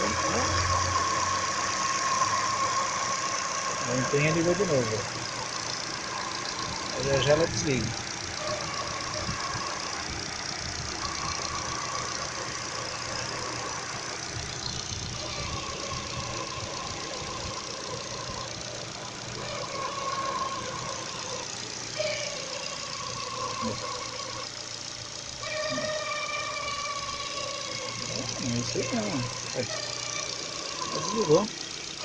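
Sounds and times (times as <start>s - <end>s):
car engine idling: 0.0s - 32.0s
timing belt whining: 0.0s - 32.0s.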